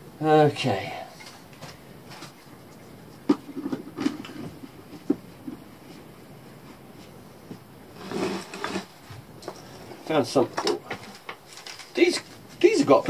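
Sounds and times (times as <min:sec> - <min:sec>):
light clattering and rustling: 0:01.2 - 0:13.0.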